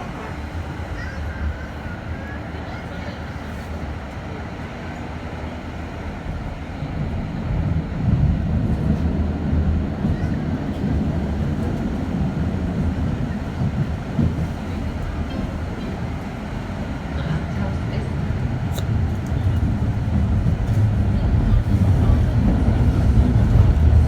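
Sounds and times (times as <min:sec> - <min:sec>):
tram rumbling: 0:00.0 - 0:24.0.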